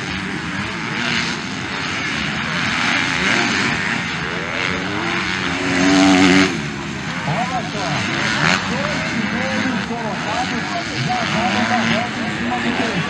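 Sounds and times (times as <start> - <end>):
motocross bikes revving: 0.0 - 13.0.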